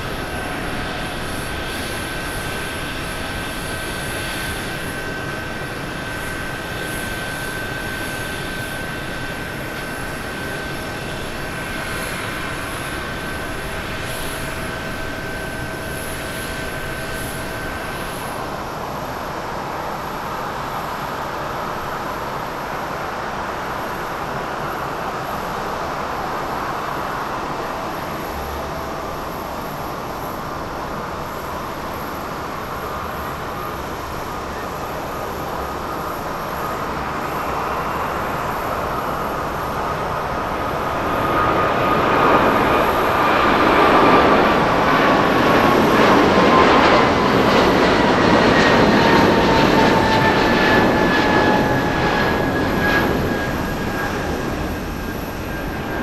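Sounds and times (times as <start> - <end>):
jet engine noise: 0.0 - 56.0
jet engine whine: 0.0 - 56.0.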